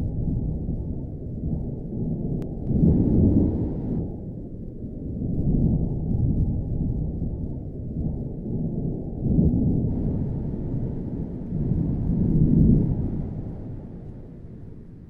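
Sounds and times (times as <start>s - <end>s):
rolling thunder: 0.0s - 15.0s.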